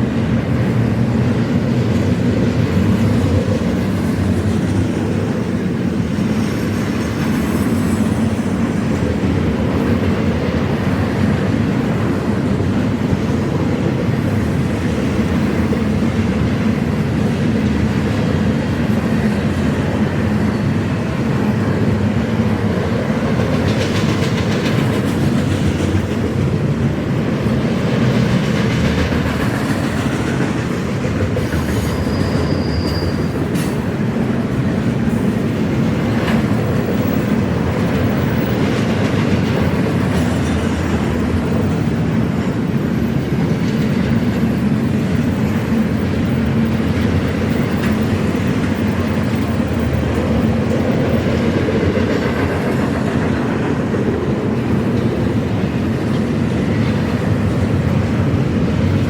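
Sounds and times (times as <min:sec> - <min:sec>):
freight train rolling past: 0:00.0 - 0:59.0
wheels clacking over rail joints: 0:00.2 - 0:59.0.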